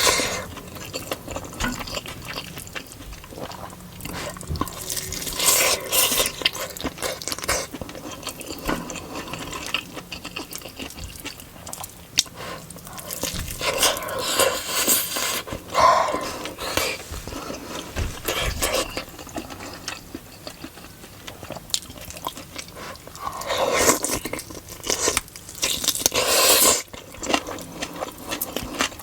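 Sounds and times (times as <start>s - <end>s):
wet chewing: 0.0s - 29.0s.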